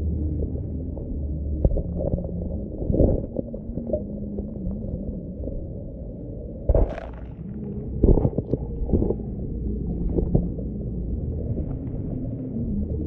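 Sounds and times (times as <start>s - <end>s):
underwater stream rumble: 0.0s - 13.0s.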